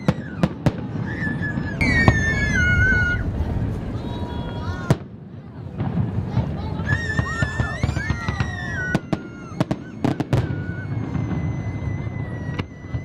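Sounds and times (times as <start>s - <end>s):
fireworks whistling: 0.0s - 5.2s, 5.8s - 13.0s
fireworks bangs and crackles: 0.0s - 13.0s.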